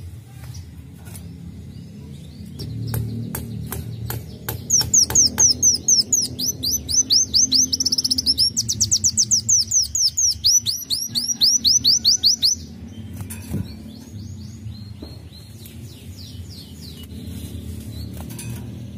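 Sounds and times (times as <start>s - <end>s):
sunbird singing: 0.4s - 18.9s.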